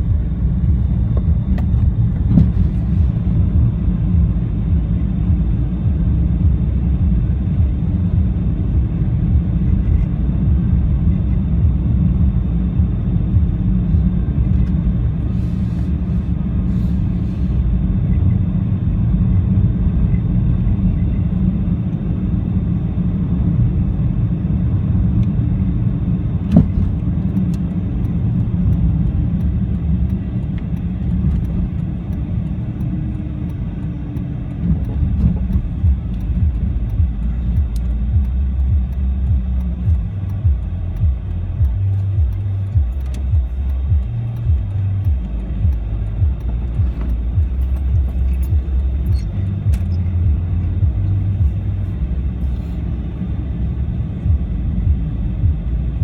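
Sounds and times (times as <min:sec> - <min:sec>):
tyres and engine rumble: 0:00.0 - 0:56.0.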